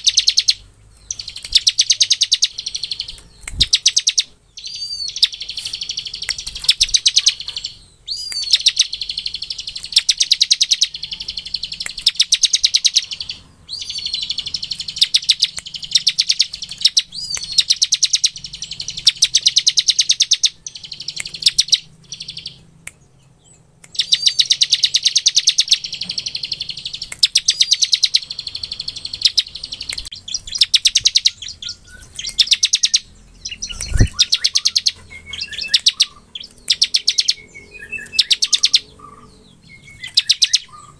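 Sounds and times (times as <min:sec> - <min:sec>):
bird singing rapid trill: 0:00.0 - 0:40.9.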